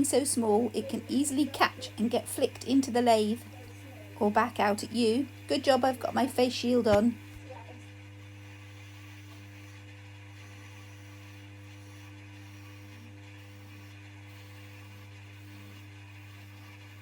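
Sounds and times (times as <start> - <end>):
wood lathe motor humming: 0.0 - 17.0.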